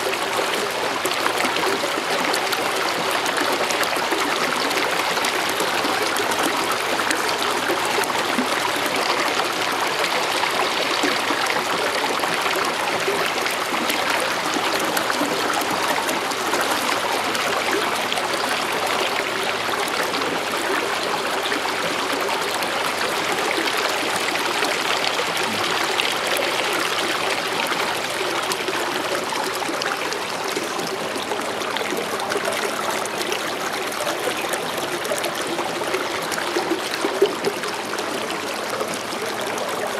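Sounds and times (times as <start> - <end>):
water rushing along canoe hull: 0.0 - 39.9.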